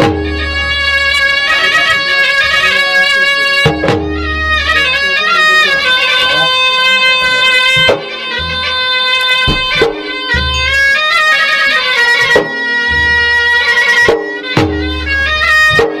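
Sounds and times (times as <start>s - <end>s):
beaten drums: 0.0s - 16.0s
nasal double-reed melody: 0.0s - 16.0s.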